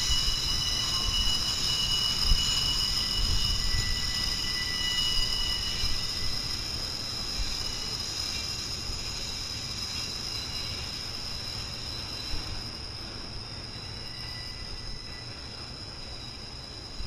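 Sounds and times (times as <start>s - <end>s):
freight train low rumble: 0.0s - 17.0s
high-pitched whine: 0.0s - 17.0s.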